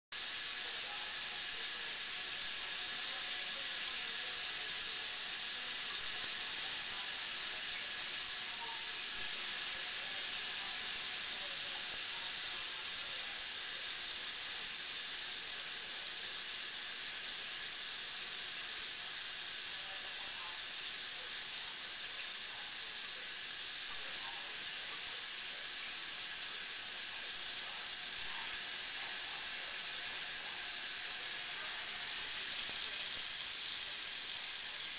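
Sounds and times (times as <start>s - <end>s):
faucet running into sink: 0.2s - 34.9s.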